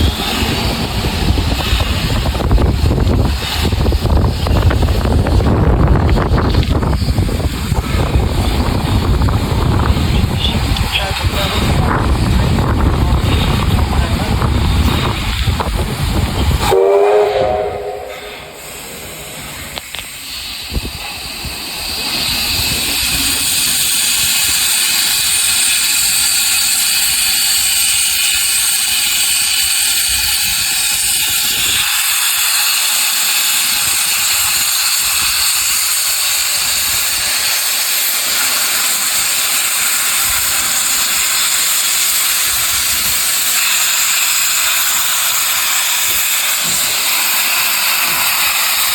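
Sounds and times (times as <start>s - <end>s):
steam locomotive hissing steam: 0.0s - 48.9s.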